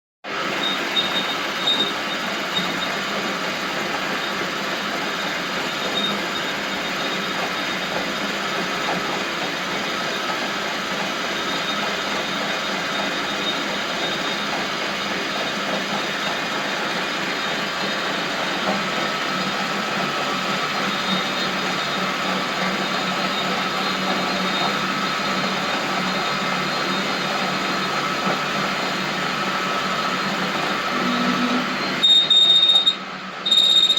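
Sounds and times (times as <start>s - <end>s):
lathe machine hum: 0.3s - 33.8s.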